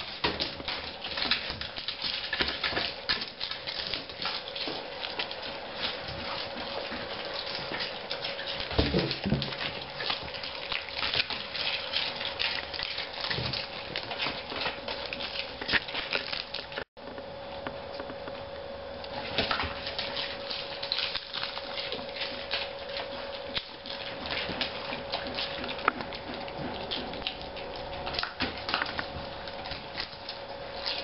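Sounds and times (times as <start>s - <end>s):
dog chewing lettuce: 0.0s - 31.0s.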